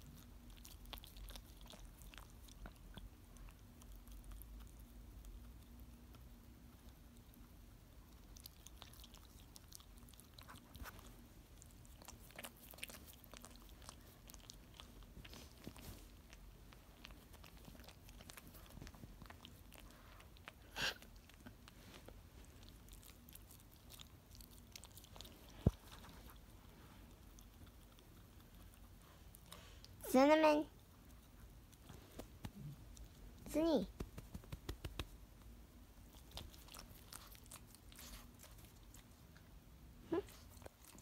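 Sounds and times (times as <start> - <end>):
dog chewing on blanket: 0.0 - 35.2, 36.0 - 39.6.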